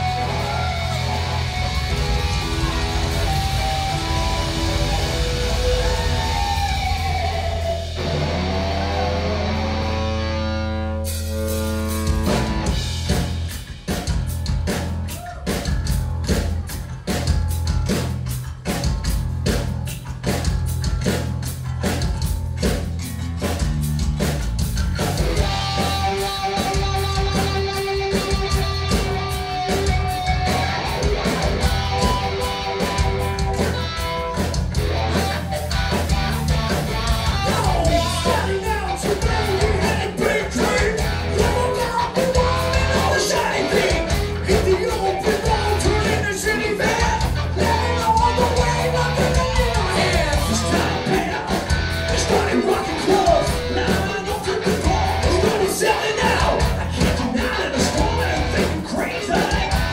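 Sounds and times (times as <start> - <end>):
drum kit: 0.0 - 10.3, 11.0 - 59.9
bass guitar: 0.0 - 59.9
electric guitar: 0.0 - 59.9.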